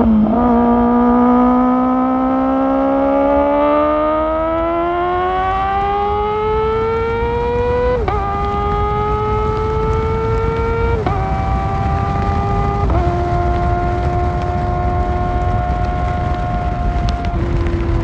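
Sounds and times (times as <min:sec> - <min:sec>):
motorcycle engine accelerating: 0:00.0 - 0:18.0
wind and road noise: 0:00.0 - 0:18.0.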